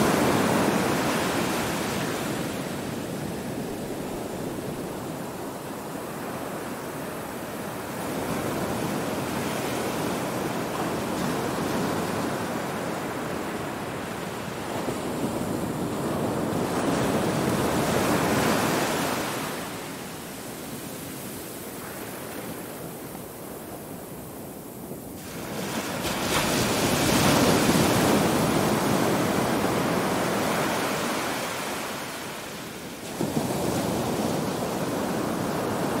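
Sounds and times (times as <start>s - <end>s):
waves breaking on a sandy beach: 0.0s - 36.0s.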